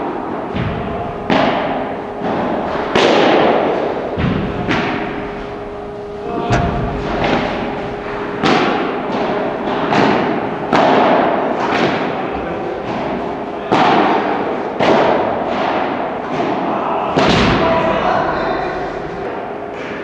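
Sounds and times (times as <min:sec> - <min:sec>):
ball hitting rackets echoing: 0:00.0 - 0:18.1.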